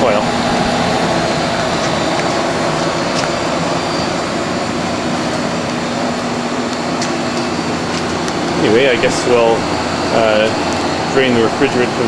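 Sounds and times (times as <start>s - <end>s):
air conditioner compressor hum: 0.0s - 12.0s
condenser fan air rush: 0.0s - 12.0s.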